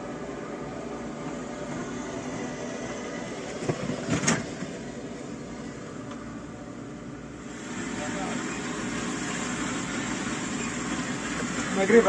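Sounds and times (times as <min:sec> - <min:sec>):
farm machinery running: 0:00.0 - 0:06.1, 0:07.4 - 0:12.0.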